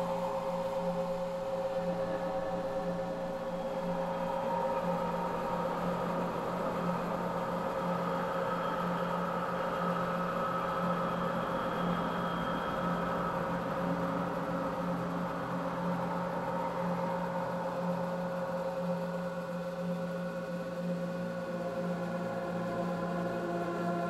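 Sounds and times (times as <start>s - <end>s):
droning hum of held tones: 0.0s - 24.0s.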